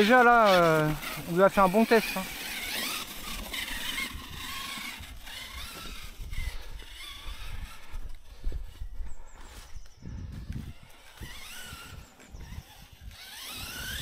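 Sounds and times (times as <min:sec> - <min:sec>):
electric toy truck motor whining: 0:00.0 - 0:14.0.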